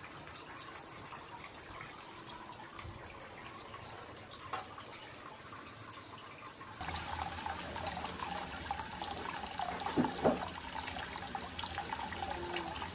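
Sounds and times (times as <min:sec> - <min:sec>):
water pouring into a bath: 0:00.0 - 0:12.9.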